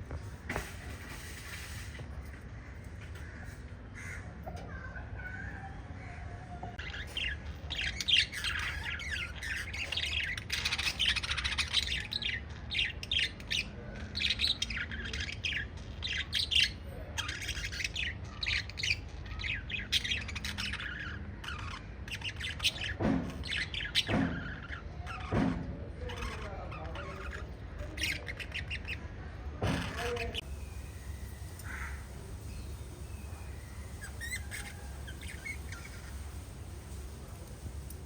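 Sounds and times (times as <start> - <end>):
lovebirds chirping and squawking: 0.1 - 38.0.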